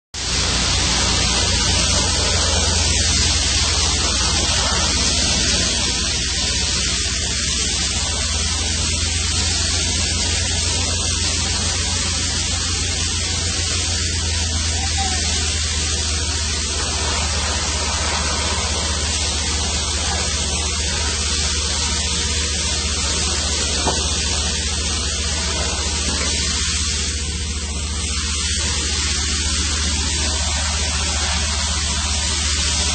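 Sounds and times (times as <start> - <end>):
loud machinery hiss: 0.2 - 32.9
low machinery hum: 0.2 - 32.9.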